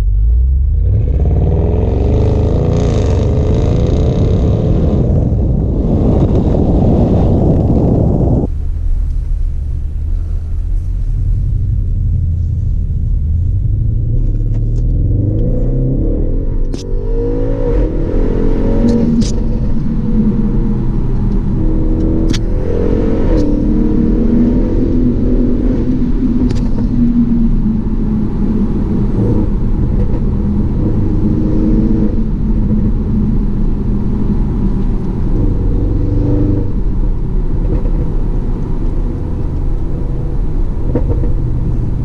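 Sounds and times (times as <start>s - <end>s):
car engine from inside cabin: 0.0s - 42.0s
road noise: 0.0s - 42.0s.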